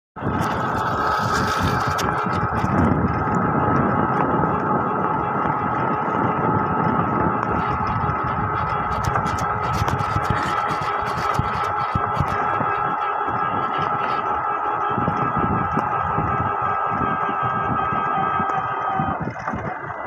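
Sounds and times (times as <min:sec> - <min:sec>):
engine running steadily: 0:00.2 - 0:20.0
high engine whine: 0:00.2 - 0:20.0.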